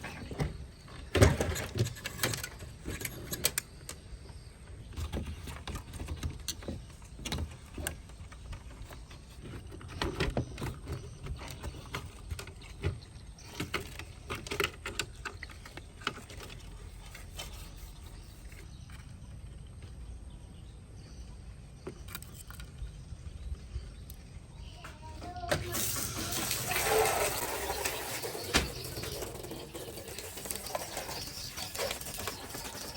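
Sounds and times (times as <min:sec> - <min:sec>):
tools and parts being handled: 0:00.0 - 0:19.6, 0:21.9 - 0:23.0, 0:25.5 - 0:32.9.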